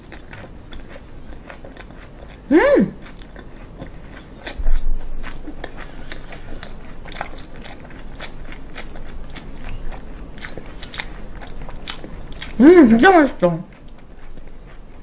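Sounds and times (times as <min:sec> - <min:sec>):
chewing crunches and clicks: 0:00.0 - 0:04.6, 0:05.2 - 0:12.6, 0:13.7 - 0:15.0.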